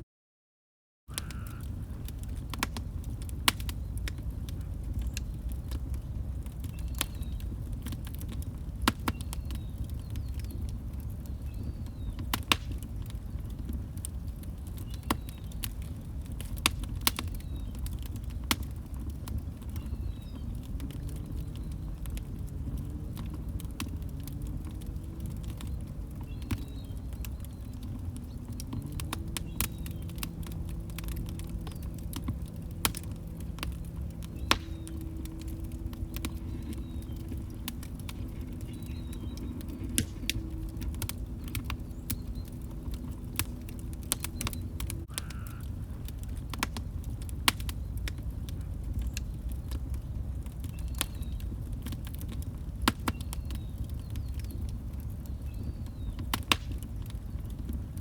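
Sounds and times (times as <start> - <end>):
wood fire crackling: 1.1 - 58.0.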